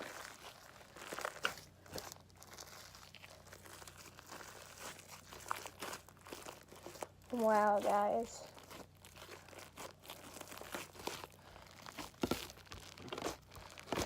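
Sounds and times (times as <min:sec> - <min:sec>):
slime kneaded by hand: 0:00.0 - 0:14.0.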